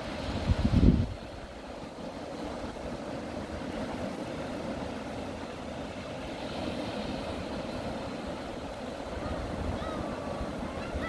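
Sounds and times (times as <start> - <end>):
small waves breaking on sand: 0.0 - 11.0.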